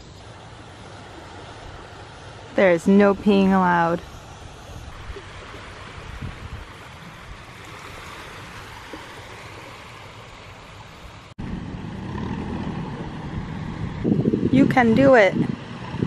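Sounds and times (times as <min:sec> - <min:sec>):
small waves washing onto shore: 0:00.0 - 0:16.0
wind rumbling on microphone: 0:00.0 - 0:16.0.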